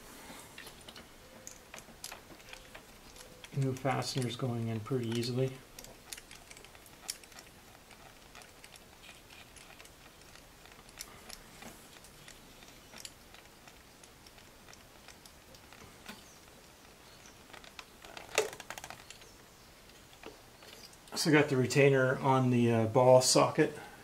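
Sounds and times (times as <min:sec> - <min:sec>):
hand tools and metal parts clicking: 0:00.6 - 0:21.2.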